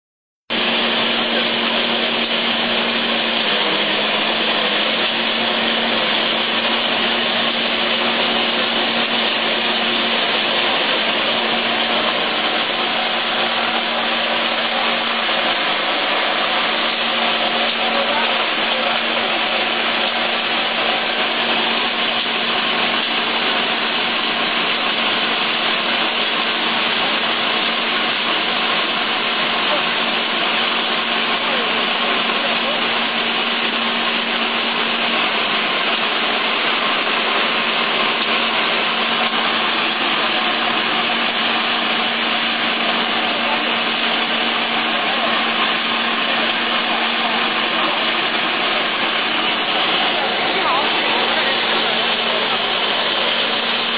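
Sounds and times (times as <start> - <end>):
corn peeling machine running: 0.5 - 53.9.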